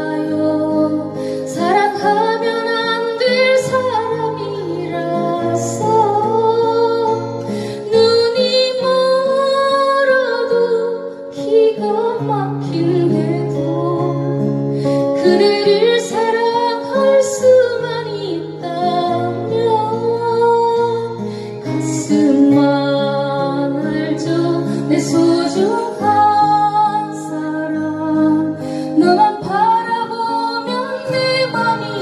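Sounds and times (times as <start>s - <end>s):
acoustic guitars: 0.0s - 32.0s
woman singing a ballad: 0.0s - 32.0s.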